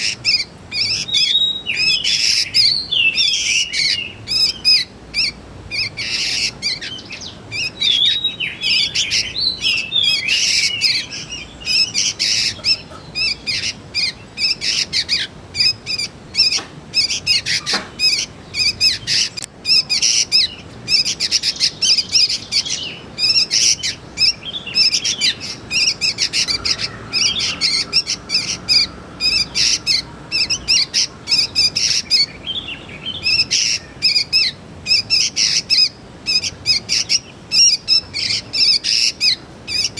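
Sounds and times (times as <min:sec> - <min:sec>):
young bulbuls chirping: 0:00.0 - 0:39.9.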